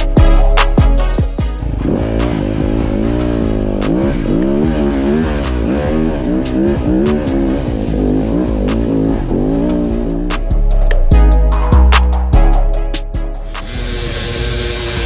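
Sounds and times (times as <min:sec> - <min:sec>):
dirt bike engine revving: 0:00.0 - 0:11.1, 0:13.4 - 0:15.0
music playing: 0:00.0 - 0:15.0.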